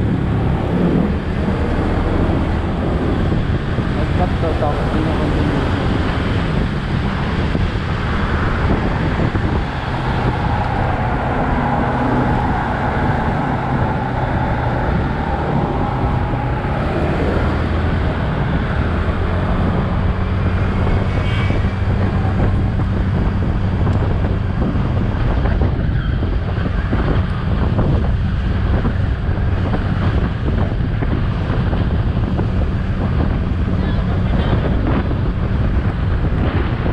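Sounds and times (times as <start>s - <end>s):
car traffic passing: 0.0s - 36.9s
motorcycle engine hum: 0.0s - 36.9s
wind buffeting microphone: 0.0s - 36.9s.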